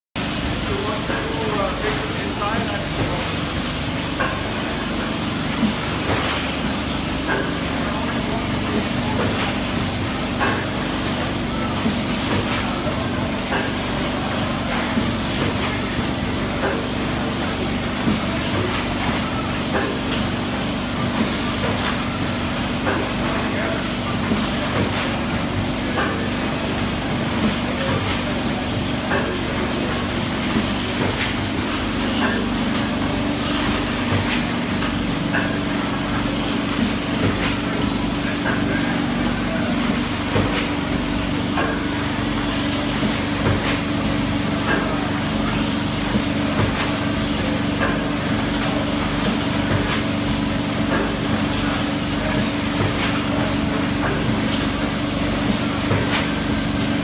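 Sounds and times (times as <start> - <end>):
machine hum and hiss: 0.2 - 57.0.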